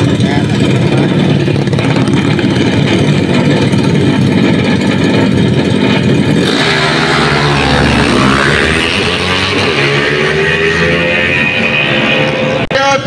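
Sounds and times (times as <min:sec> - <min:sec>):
motorcycles launching hard: 0:00.0 - 0:12.6
motorcycles revving: 0:00.0 - 0:13.0.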